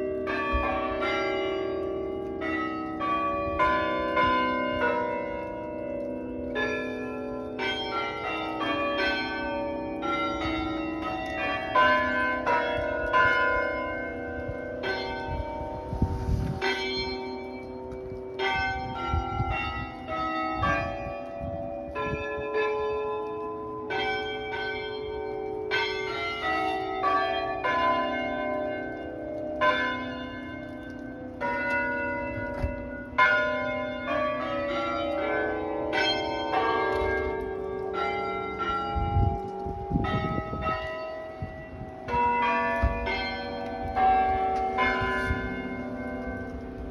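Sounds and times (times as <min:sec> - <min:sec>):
tower chime bells playing: 0:00.0 - 0:46.9.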